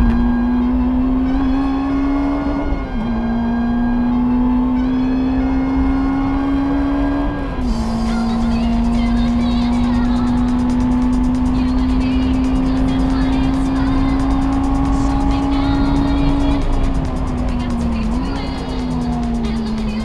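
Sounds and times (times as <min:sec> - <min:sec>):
race car engine at high revs: 0:00.0 - 0:20.0
road and wind noise: 0:00.0 - 0:20.0.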